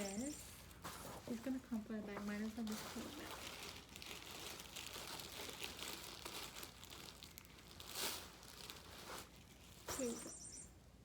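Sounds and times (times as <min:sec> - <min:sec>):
bag crinkling and rustling: 0:00.0 - 0:10.4.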